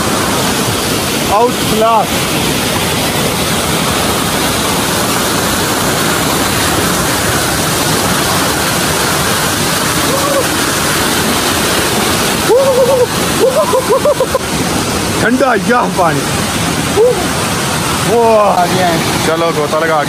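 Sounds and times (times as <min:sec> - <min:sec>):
waterfall splashing onto rock: 0:00.0 - 0:20.0.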